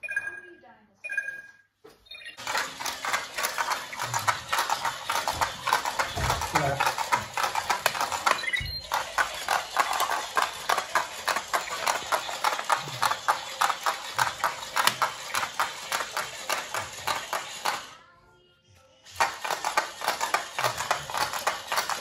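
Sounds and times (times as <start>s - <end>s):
toy robot feet tapping on wood: 2.4s - 17.9s, 19.2s - 22.0s.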